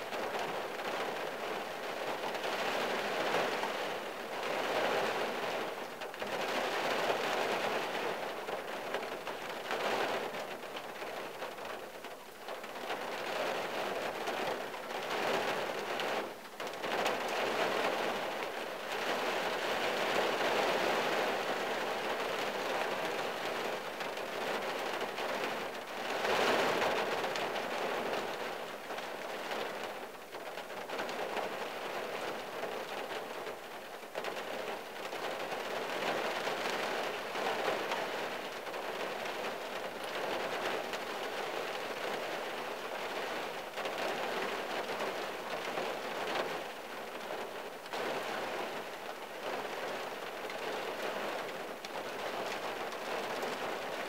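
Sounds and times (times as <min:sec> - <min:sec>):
rain on a car roof: 0:00.0 - 0:54.0.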